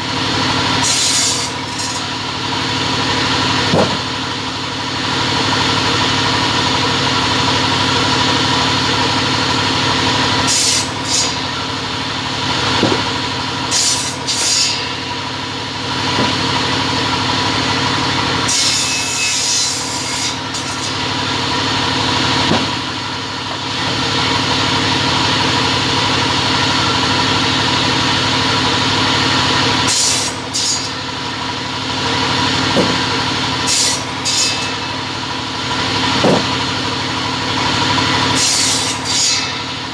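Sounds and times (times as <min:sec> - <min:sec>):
saw cutting: 0:00.0 - 0:39.9
saw motor humming: 0:00.0 - 0:39.9.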